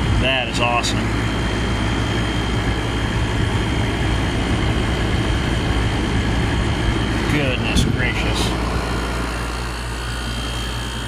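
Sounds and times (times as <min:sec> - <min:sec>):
air conditioner fan rushing air: 0:00.0 - 0:11.0.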